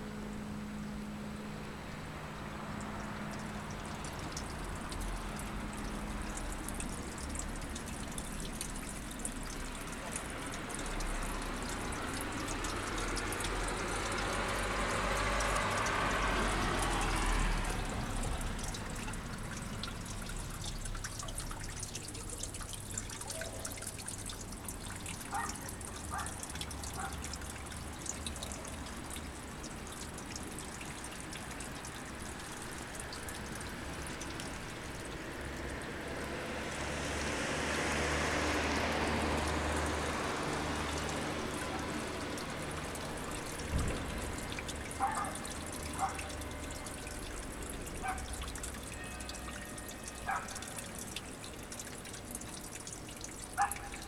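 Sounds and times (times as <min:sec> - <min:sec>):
water trickling: 0:00.0 - 0:54.0
water rushing: 0:01.7 - 0:54.0.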